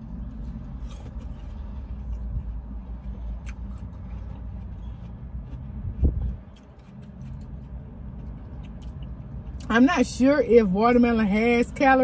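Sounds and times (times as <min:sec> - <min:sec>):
person chewing watermelon: 0:00.0 - 0:09.7.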